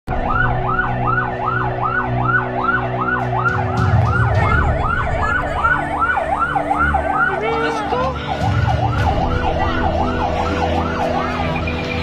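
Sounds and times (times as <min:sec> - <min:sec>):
siren in fast yelp mode: 0:00.2 - 0:12.0.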